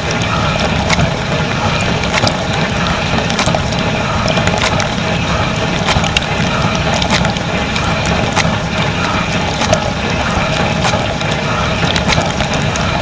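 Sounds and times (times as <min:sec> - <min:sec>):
dishwasher pump humming: 0:00.0 - 0:13.0
water spraying: 0:00.0 - 0:13.0.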